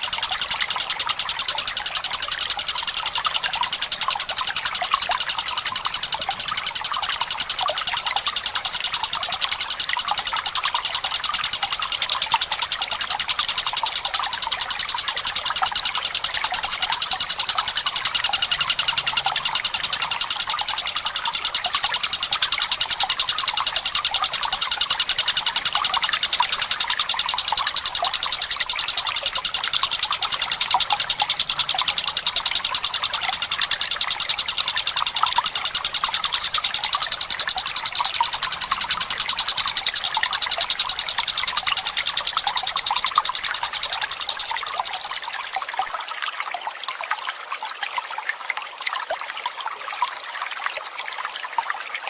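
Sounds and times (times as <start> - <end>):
kingfisher rattling trill: 0.0 - 45.2
trickling water: 0.0 - 52.0.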